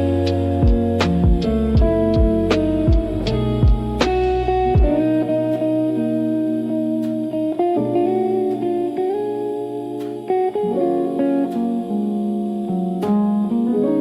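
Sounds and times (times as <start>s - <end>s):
guitar sliding held notes: 0.0s - 14.0s.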